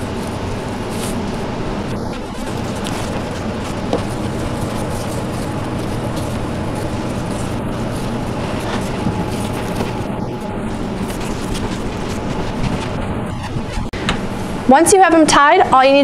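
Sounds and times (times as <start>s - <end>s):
low constant hum: 0.0s - 16.0s
steady noise: 0.0s - 16.0s.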